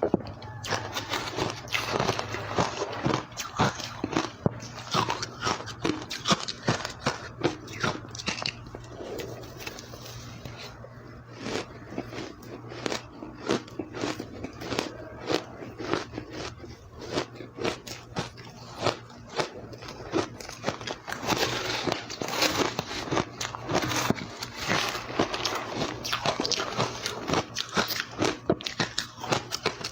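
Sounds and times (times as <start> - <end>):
ice being chewed: 0.0 - 29.9.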